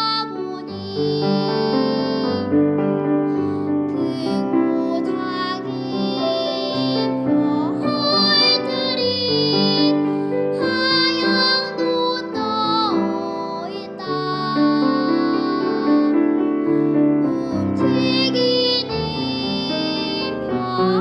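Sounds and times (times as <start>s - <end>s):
girl singing: 0.0s - 21.0s
piano accompaniment: 0.0s - 21.0s.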